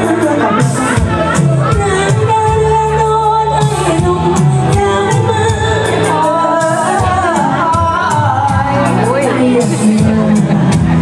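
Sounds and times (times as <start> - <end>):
amplified backing track with beat: 0.0 - 11.0
woman singing into a microphone: 0.0 - 11.0.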